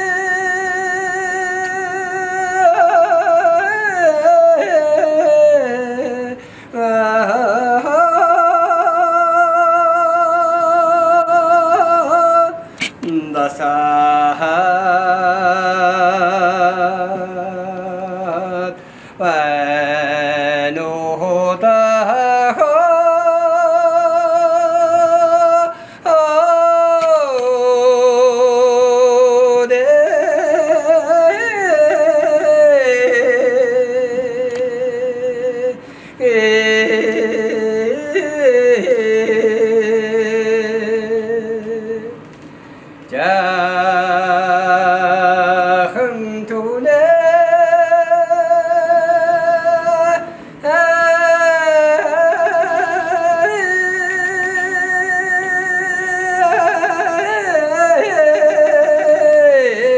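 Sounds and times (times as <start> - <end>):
man singing with vibrato: 0.0 - 59.9.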